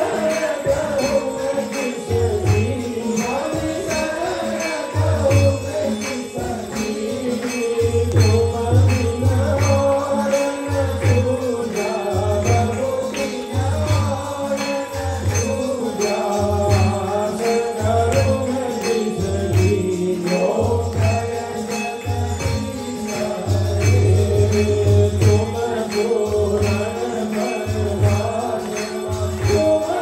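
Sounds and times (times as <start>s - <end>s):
bells ringing: 0.0s - 30.0s.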